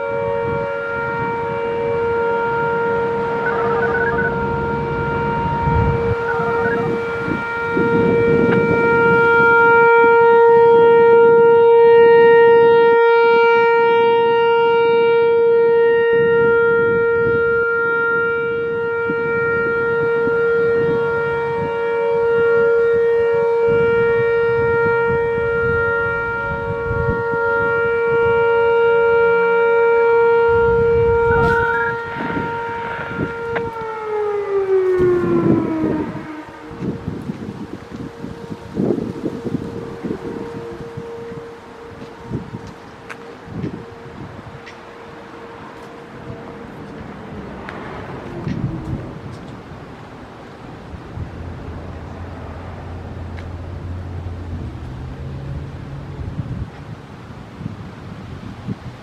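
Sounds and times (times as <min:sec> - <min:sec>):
rotating warning siren: 0:00.0 - 0:59.0.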